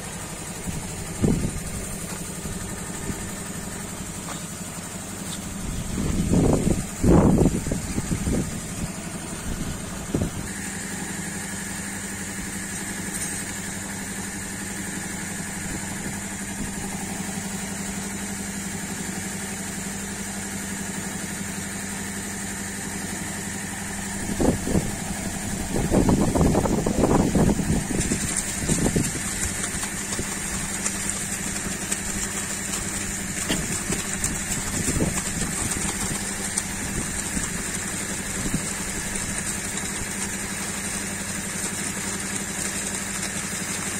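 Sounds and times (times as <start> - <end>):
water and air hissing from pipe: 0.0 - 21.2, 22.0 - 43.9
air compressor humming: 0.0 - 43.9.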